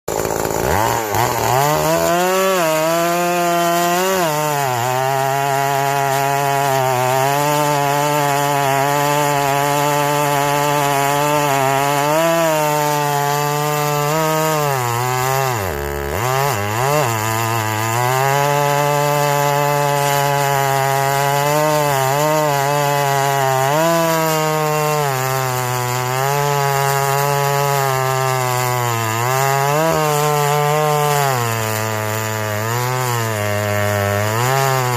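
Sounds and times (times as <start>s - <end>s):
small engine at high revs: 0.1s - 34.9s.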